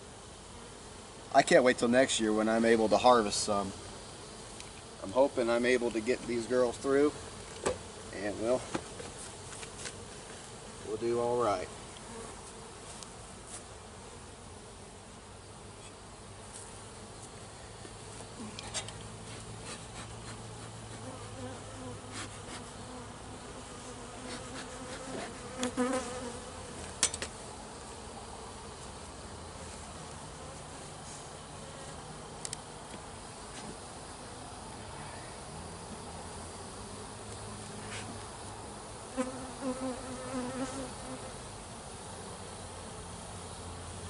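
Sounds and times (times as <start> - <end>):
honey bees buzzing: 0.0 - 44.0.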